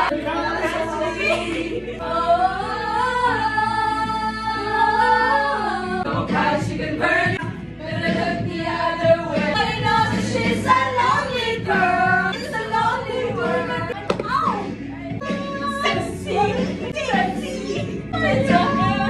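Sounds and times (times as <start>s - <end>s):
group of people singing: 0.0s - 19.0s.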